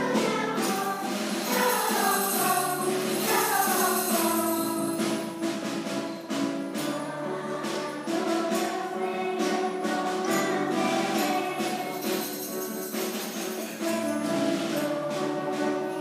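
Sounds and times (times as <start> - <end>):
children's choir singing: 0.0 - 16.0
jingling percussion shaken: 0.0 - 16.0
piano accompaniment: 0.0 - 16.0.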